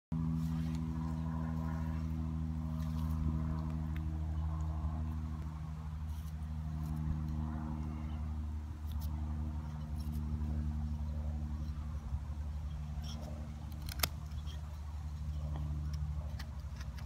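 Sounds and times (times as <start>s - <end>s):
engine droning: 0.1s - 17.0s.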